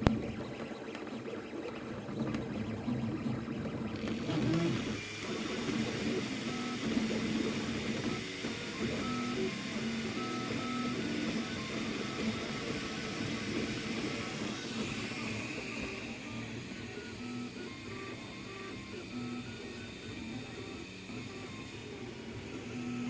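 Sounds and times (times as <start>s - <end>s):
stepper motors whirring: 0.0s - 23.0s.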